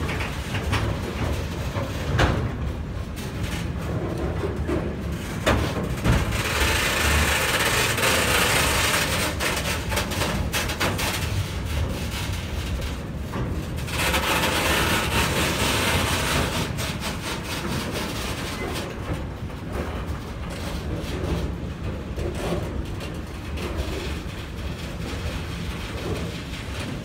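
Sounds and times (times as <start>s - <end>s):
freight train rolling: 0.0s - 27.0s.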